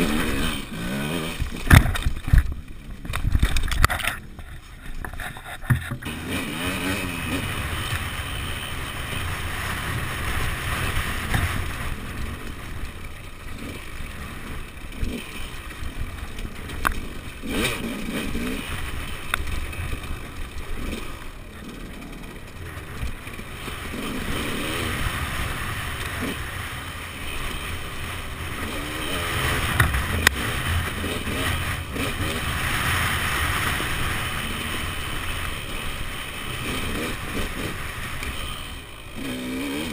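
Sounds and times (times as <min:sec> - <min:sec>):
dirt bike engine revving: 0:00.0 - 0:03.0, 0:05.8 - 0:39.9.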